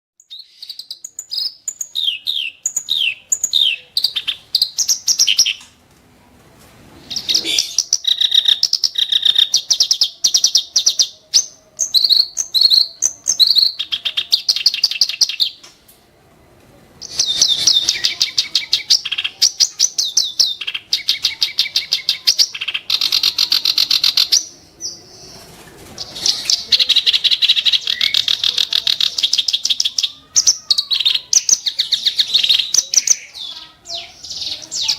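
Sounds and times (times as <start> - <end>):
warbler singing: 0.2 - 5.8, 7.0 - 15.7, 17.0 - 25.4, 26.0 - 34.9.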